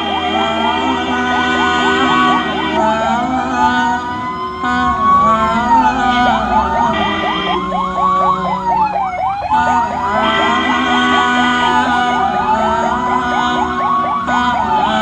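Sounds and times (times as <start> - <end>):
engine rumbling: 0.0 - 15.0
siren wailing: 0.0 - 15.0
steady held tone: 0.0 - 15.0
yelping siren warble: 0.0 - 15.0.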